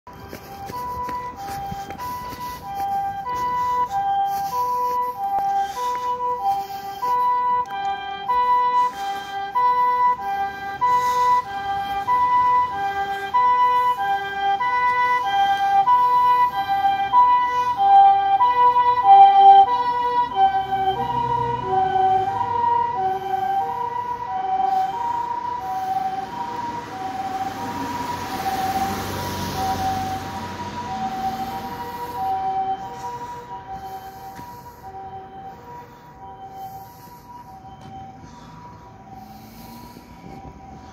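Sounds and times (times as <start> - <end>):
rushing road noise: 0.0 - 40.9
two-tone ambulance siren: 0.0 - 40.9.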